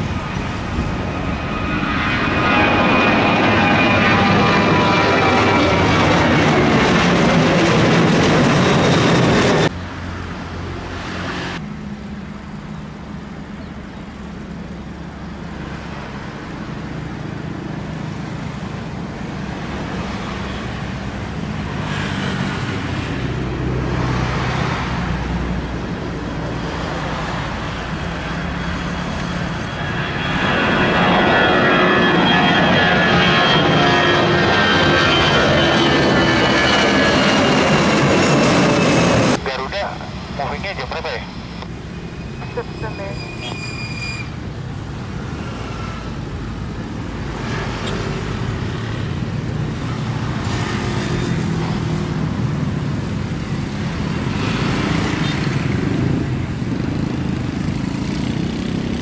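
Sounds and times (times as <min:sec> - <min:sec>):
jet airliner taking off: 0:00.0 - 0:11.6, 0:14.2 - 0:59.0
jet engine whine: 0:00.0 - 0:59.0.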